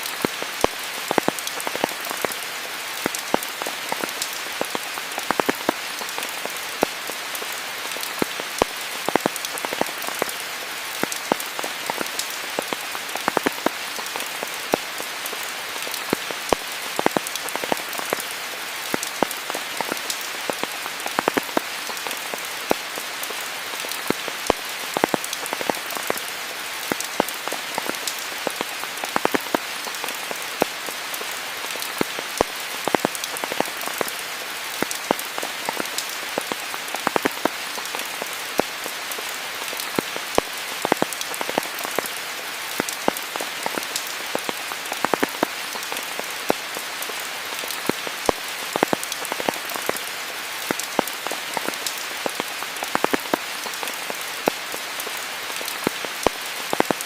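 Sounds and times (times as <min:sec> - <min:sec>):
raindrops pattering on surfaces: 0:00.0 - 0:57.0
steady rain hiss: 0:00.0 - 0:57.0.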